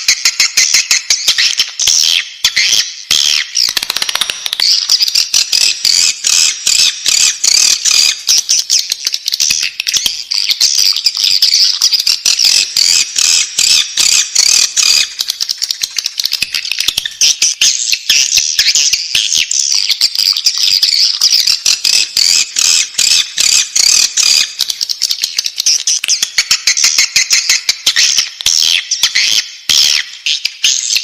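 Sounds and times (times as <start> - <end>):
bird chicks chirping: 0.0 - 31.0.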